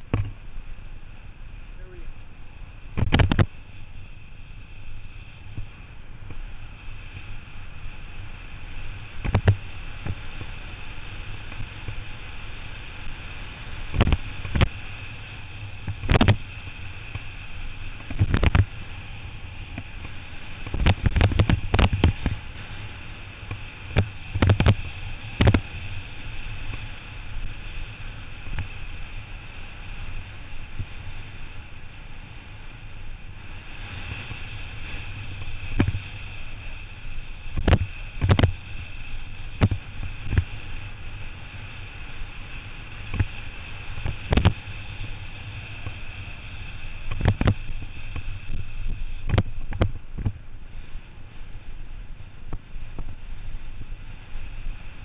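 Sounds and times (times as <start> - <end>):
bike road rumble: 0.0 - 55.0
wind rushing over microphone: 0.0 - 55.0.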